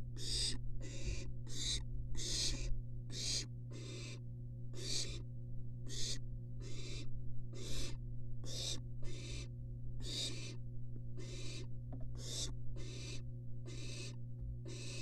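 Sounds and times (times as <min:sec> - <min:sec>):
steady low hum: 0:00.0 - 0:15.0
owl nestlings hissing calls: 0:00.2 - 0:05.2, 0:05.8 - 0:10.6, 0:11.2 - 0:15.0.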